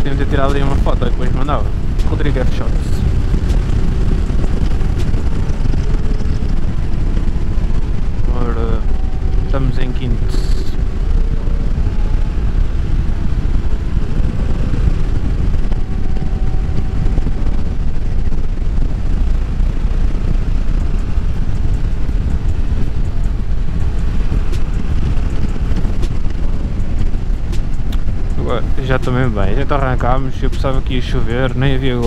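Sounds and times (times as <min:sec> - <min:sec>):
motorcycle engine running: 0:00.0 - 0:32.0
wind rushing over microphone: 0:00.0 - 0:32.0.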